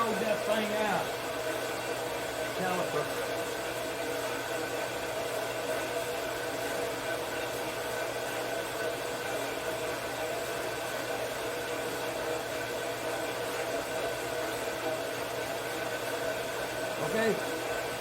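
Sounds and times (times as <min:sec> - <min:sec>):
machine whirring with hum: 0:00.0 - 0:18.0.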